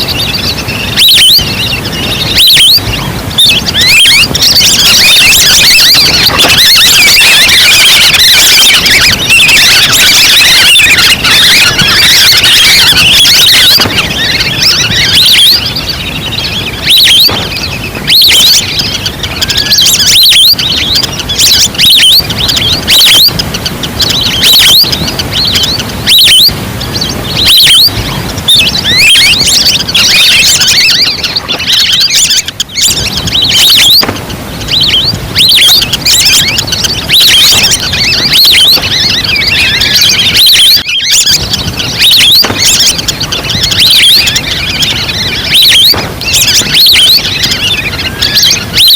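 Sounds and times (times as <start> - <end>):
ducks whistling: 0.0 - 48.9.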